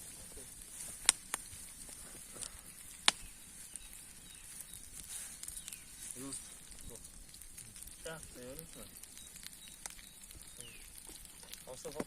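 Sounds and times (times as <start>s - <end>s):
steady high hiss: 0.0s - 12.0s
sharp cracks: 1.0s - 3.9s, 4.9s - 12.0s.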